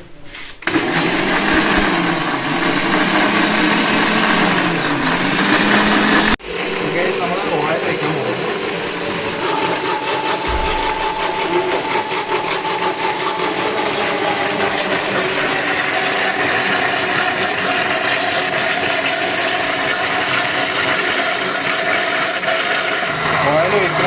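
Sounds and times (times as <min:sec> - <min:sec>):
electric blender running: 0:00.6 - 0:24.0.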